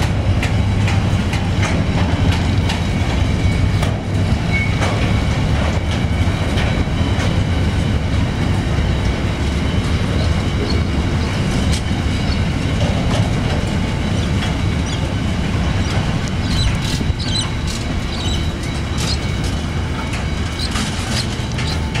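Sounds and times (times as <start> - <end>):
train wagons rumbling past: 0.0 - 22.0
wheels clicking over rail joints: 0.0 - 22.0
high wheel squeaks: 1.7 - 22.0.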